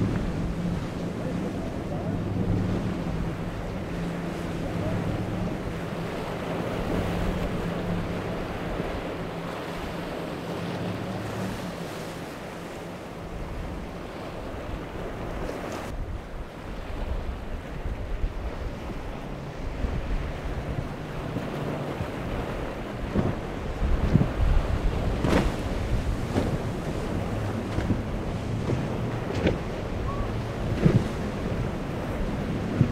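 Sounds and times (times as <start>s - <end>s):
outboard engines droning: 0.0s - 32.9s
wind buffeting microphone: 0.0s - 32.9s.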